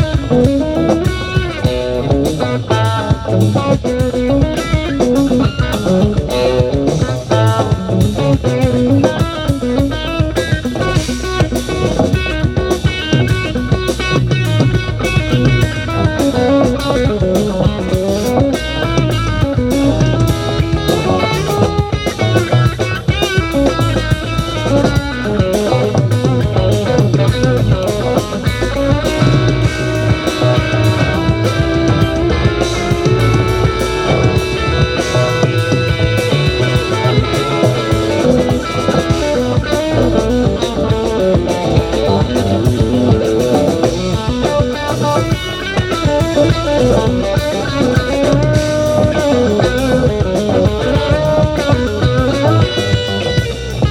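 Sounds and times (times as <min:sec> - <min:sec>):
bass: 0:00.0 - 0:53.9
drum kit: 0:00.0 - 0:53.9
electric guitar: 0:00.0 - 0:53.9.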